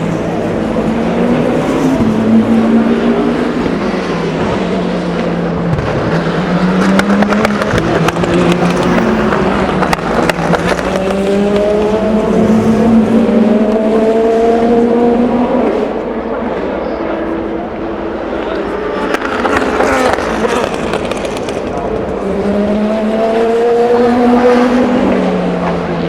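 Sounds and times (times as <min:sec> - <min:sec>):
engine crackles: 0:00.0 - 0:26.0
race car engines: 0:00.0 - 0:26.0.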